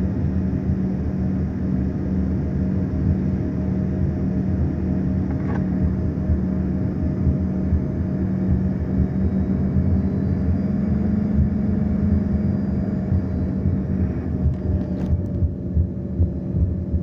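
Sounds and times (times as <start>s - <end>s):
airliner engines droning: 0.0s - 17.0s.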